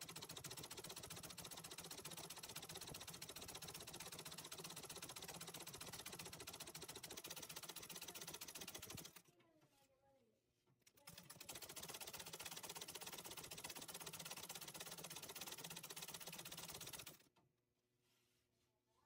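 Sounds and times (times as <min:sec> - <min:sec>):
treadle sewing machine stitching: 0:00.0 - 0:09.3, 0:10.8 - 0:17.3.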